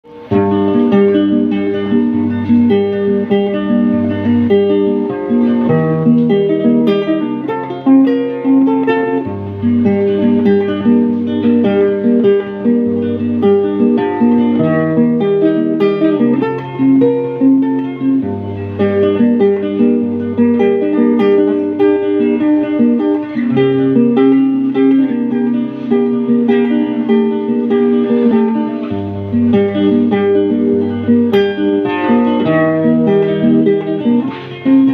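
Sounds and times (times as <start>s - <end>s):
guitar picking and strumming: 0.0s - 34.9s.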